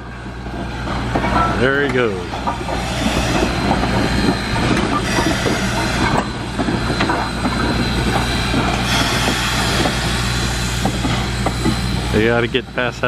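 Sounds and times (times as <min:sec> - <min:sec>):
steam locomotive rumbling: 0:00.0 - 0:13.0
wheels clanking on rails: 0:00.0 - 0:13.0.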